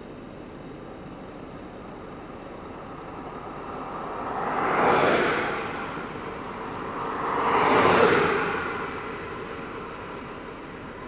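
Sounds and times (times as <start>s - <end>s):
vehicles passing: 1.9s - 11.0s.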